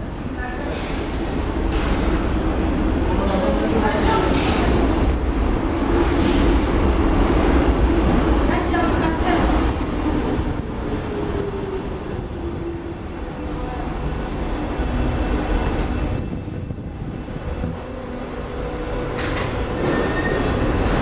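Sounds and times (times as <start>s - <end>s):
train rumbling through station: 0.0s - 21.0s.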